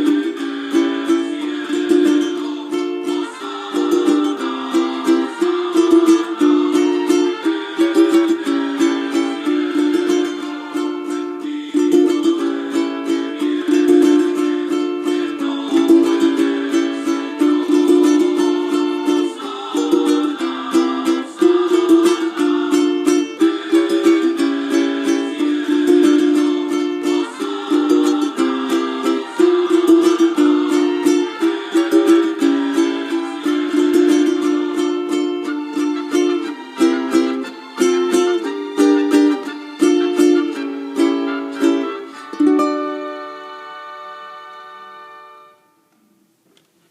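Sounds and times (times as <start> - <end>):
ukulele strummed fast: 0.0 - 43.5.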